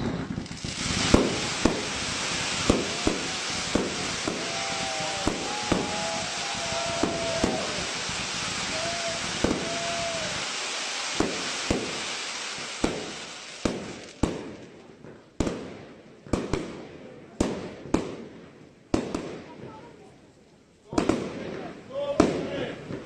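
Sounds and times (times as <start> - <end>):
fireworks bangs echoing: 0.0 - 19.9, 20.9 - 23.0
fireworks crackling hiss: 0.0 - 23.0.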